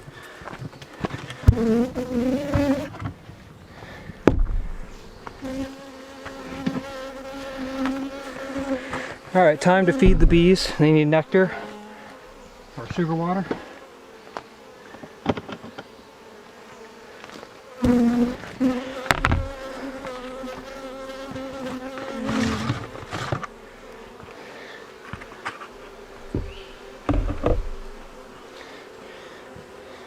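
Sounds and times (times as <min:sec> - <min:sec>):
honeybees buzzing: 0:00.0 - 0:30.0
bee hovering close by: 0:01.4 - 0:03.0, 0:04.4 - 0:30.0.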